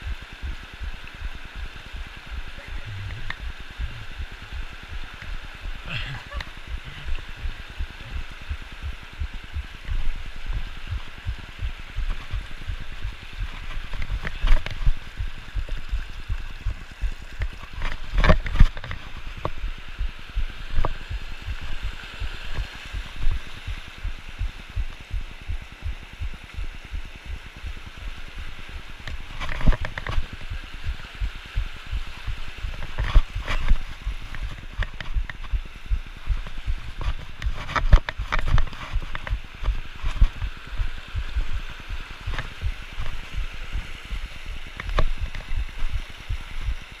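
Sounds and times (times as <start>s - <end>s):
low thumps on microphone: 0.0s - 27.8s, 29.1s - 46.9s
creek rushing over boulders: 0.0s - 47.0s.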